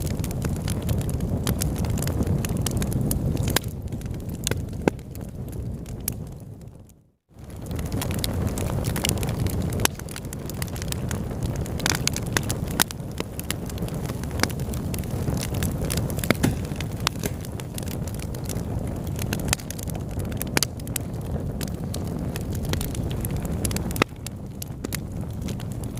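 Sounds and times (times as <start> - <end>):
fire crackling and popping: 0.0 - 25.9
wood fire rumbling: 0.0 - 25.9.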